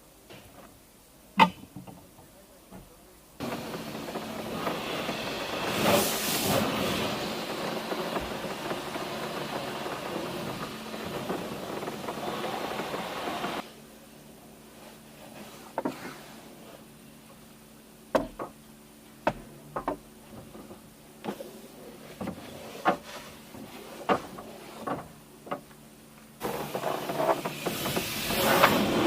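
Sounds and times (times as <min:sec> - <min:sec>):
loud steady hiss: 0:00.0 - 0:29.0.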